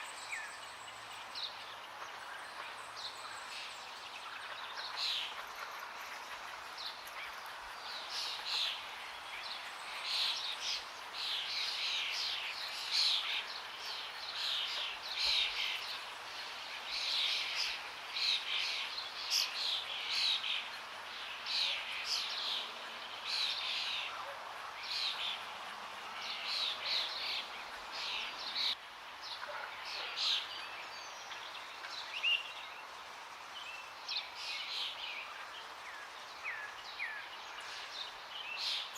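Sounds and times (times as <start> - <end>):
flowing water: 0.0 - 38.9
songbirds chirping: 0.0 - 38.9.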